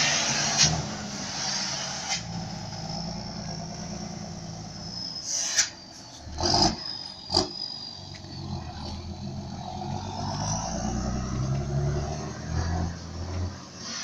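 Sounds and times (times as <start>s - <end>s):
truck engine low rumble: 0.0s - 14.0s.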